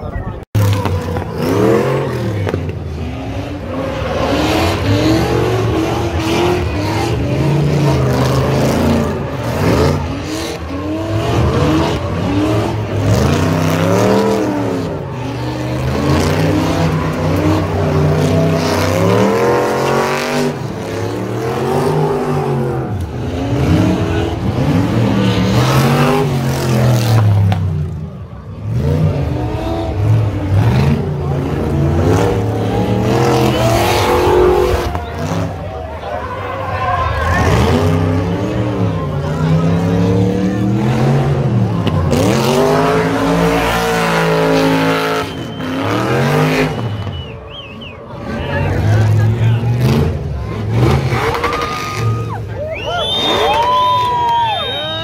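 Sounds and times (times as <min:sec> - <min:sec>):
car engine revving hard: 0:00.6 - 0:35.7, 0:37.1 - 0:47.2, 0:48.2 - 0:52.2.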